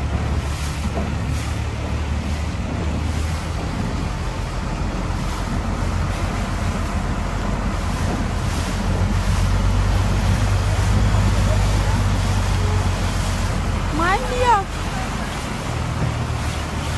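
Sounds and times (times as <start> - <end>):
boat engine droning: 0.0 - 16.9
water rushing past: 0.0 - 16.9.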